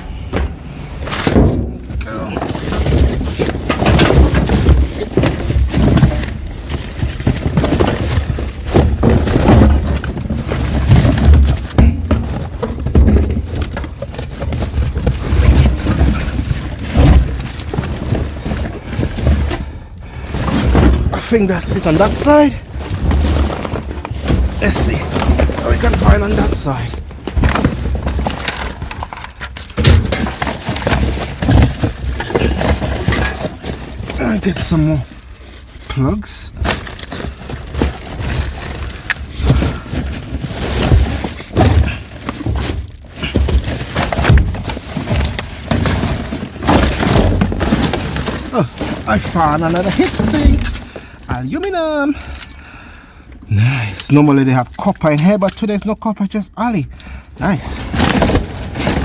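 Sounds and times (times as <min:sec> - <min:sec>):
scrap clattering and knocking: 0:00.0 - 0:59.0.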